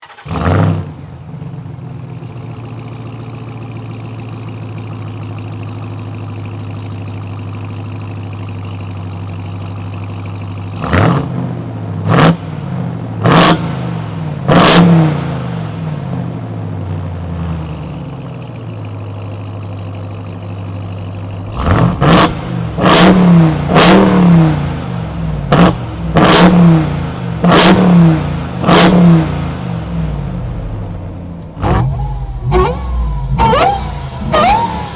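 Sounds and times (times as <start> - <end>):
vehicle engine idling and revving: 0.0 - 34.9.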